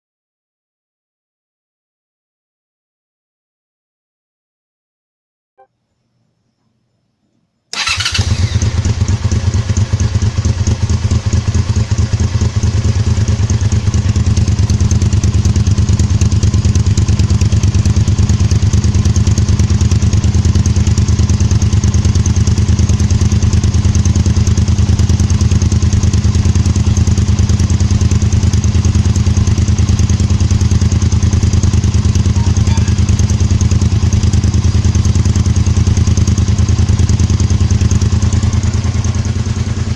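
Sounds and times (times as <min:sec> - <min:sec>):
motorcycle engine idling: 0:07.7 - 0:39.9.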